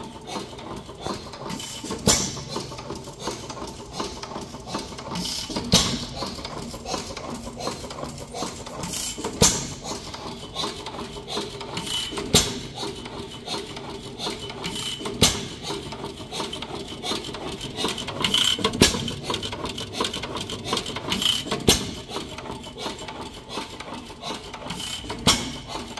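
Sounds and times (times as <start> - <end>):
engine mechanical clatter: 0.0 - 25.9.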